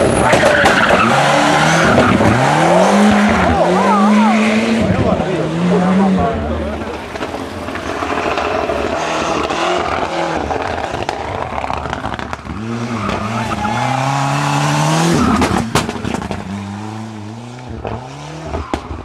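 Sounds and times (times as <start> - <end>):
exhaust bangs: 0.0 - 19.0
rally car engine revving: 0.0 - 19.0.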